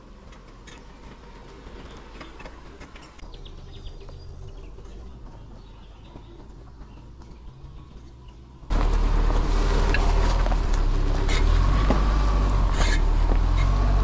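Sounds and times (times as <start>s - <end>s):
car driving low rumble: 0.0s - 14.0s.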